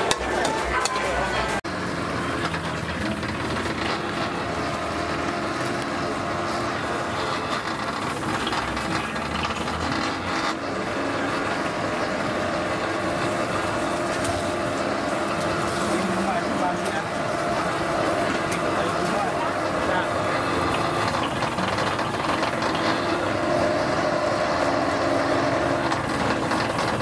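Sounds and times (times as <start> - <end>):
background voices: 0.0 - 27.0
clatter: 1.6 - 27.0.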